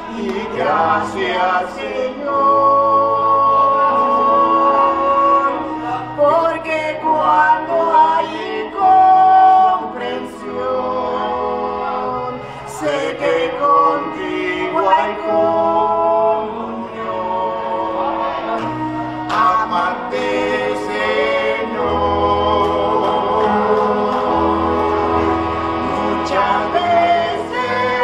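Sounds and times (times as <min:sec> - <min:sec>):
keyboard accompaniment: 0:00.0 - 0:28.0
voices singing slow song: 0:00.0 - 0:28.0.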